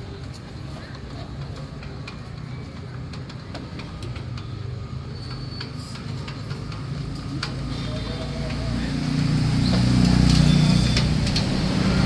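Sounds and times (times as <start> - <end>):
traffic engines running: 0.0 - 12.0.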